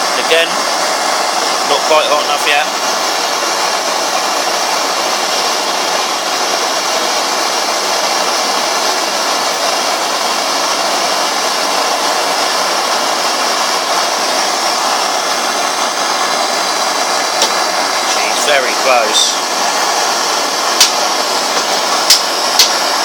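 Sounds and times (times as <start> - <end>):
blowtorch flame hissing: 0.0 - 23.0.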